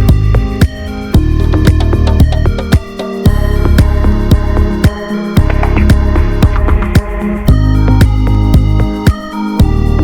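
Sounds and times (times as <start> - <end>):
electronic music with heavy beat: 0.0 - 10.0.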